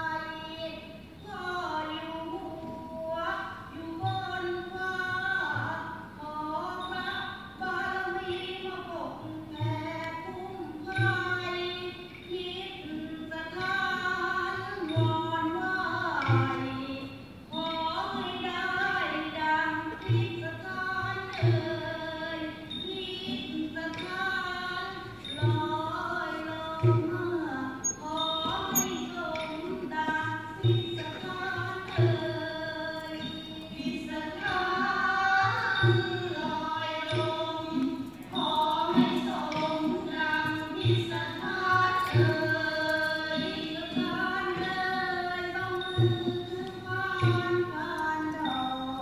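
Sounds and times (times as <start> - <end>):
woman singing folk song: 0.0 - 49.0.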